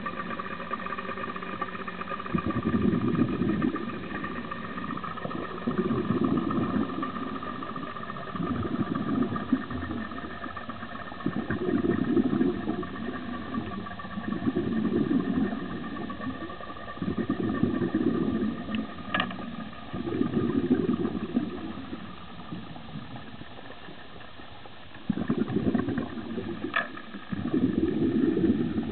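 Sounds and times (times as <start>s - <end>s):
faint steady hum: 0.0s - 28.9s
underwater rumbling swells: 0.0s - 28.9s.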